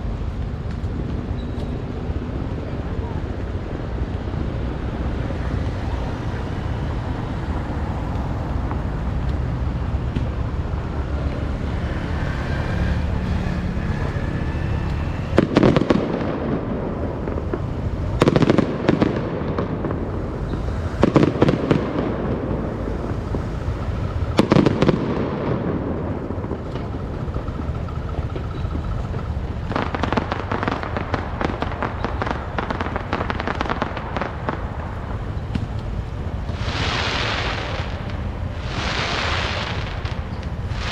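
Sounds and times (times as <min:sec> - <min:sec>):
fireworks crackling: 0:00.0 - 0:40.9
low background rumble: 0:00.0 - 0:40.9.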